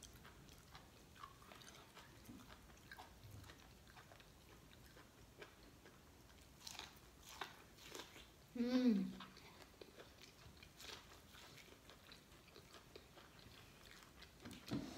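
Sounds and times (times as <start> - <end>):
faint close-up chewing: 0.0 - 14.9.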